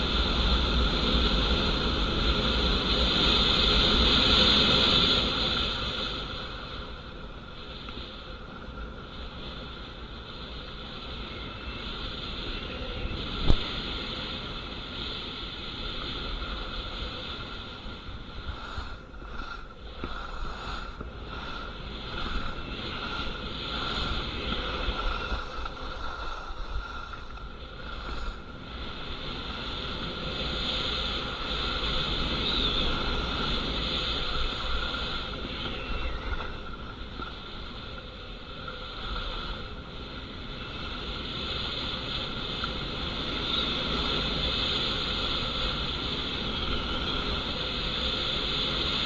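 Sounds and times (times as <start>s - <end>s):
skis scraping over icy snow: 0.0s - 49.0s
wind on microphone: 0.0s - 49.0s.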